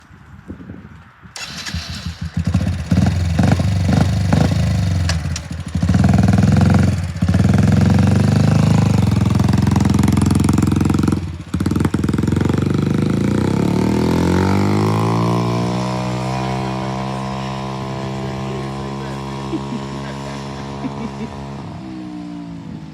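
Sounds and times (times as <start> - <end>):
atv engine revving: 1.4 - 22.9.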